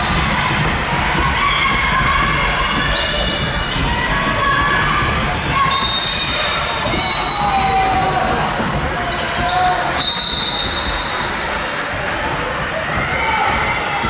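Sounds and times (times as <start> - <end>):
sneakers squeaking: 0.0 - 14.0.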